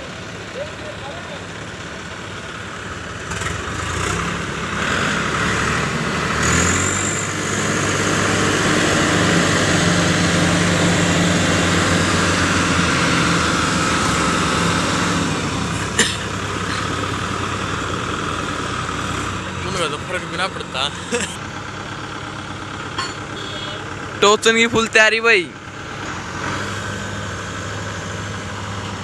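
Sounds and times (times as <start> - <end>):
tractor diesel engines revving: 0.0 - 29.0.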